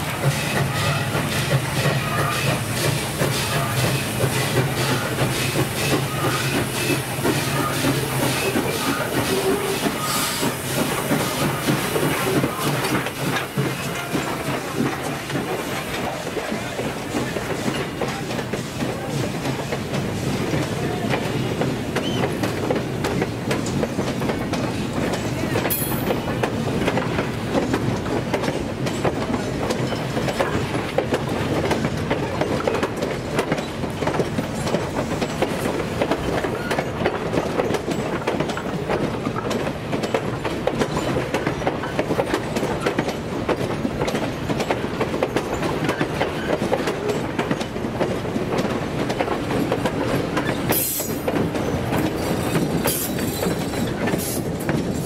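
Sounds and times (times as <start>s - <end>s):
train rumble: 0.0s - 55.0s
train wheels clattering over rail joints: 0.0s - 55.0s.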